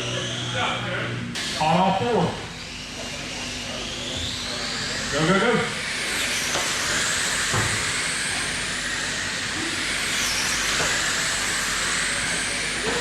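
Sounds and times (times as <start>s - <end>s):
electric rc cars whining: 0.0s - 13.0s.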